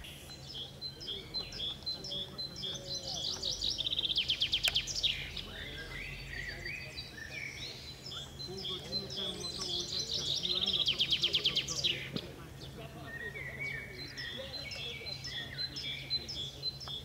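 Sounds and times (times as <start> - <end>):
bird trill: 0.0 - 17.0
songbirds chirping: 0.0 - 17.0.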